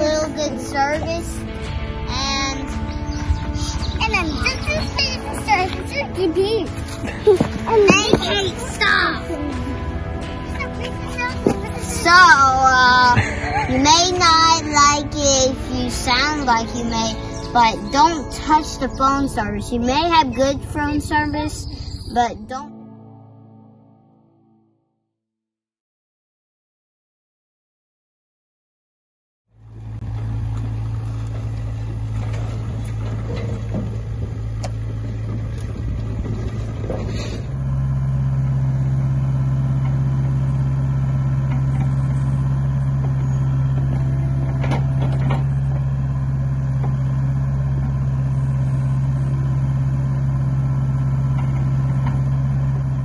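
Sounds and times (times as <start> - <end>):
excavator diesel engine running: 0.0 - 22.7, 29.6 - 53.0.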